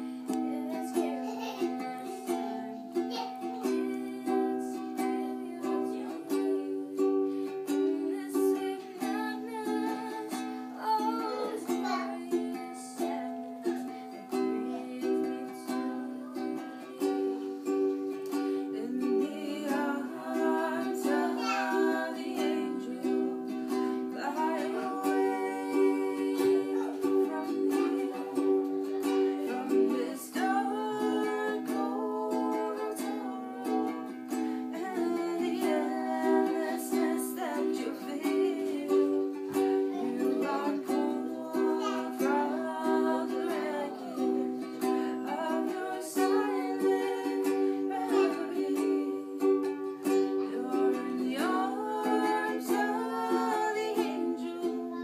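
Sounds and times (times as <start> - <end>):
ukulele strumming chords: 0.0 - 55.0.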